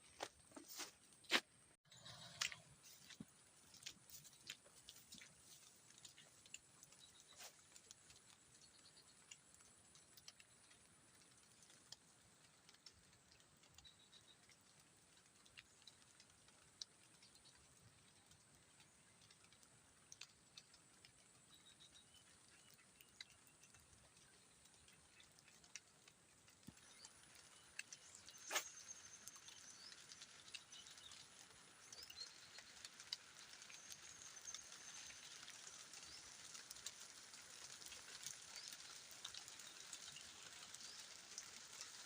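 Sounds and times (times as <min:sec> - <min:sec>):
light rain patter: 0:01.8 - 0:42.0.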